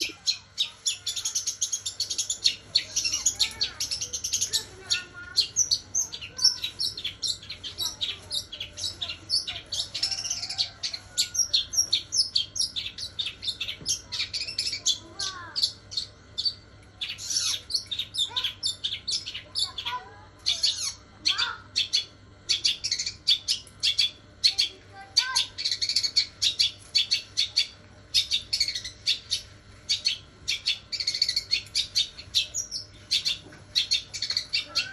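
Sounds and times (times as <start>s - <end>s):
bird singing high chirps: 0.0s - 34.9s.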